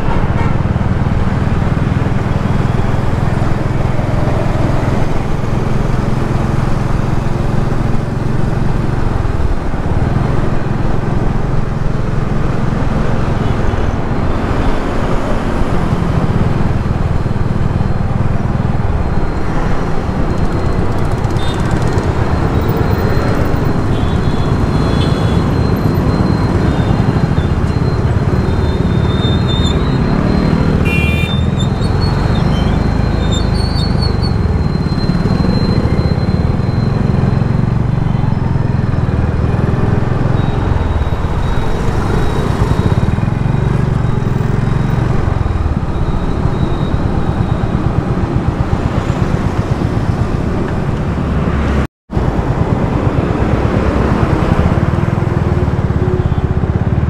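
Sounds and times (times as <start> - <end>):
road and traffic rumble: 0.0 - 57.0.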